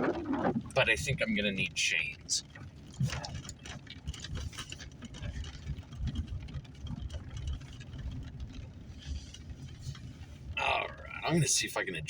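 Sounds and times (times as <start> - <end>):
rattles and ticks: 0.0 - 11.9
vehicle rumbling on dirt road: 0.0 - 12.0.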